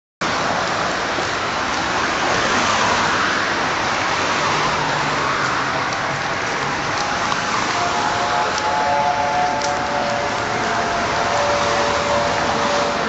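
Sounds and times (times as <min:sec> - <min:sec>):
low vehicle engine hum: 0:00.2 - 0:13.0
road traffic rushing: 0:00.2 - 0:13.0.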